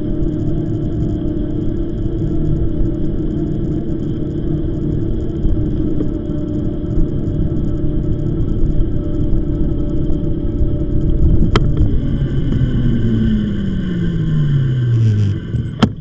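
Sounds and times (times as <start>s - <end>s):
e-bike motor hum: 0.0s - 16.0s.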